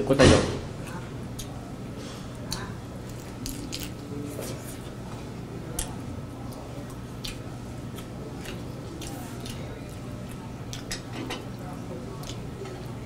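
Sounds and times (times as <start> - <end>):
steady low hum: 0.0 - 13.0
chewing with wet clicks: 0.8 - 1.6, 2.3 - 4.1, 4.8 - 13.0.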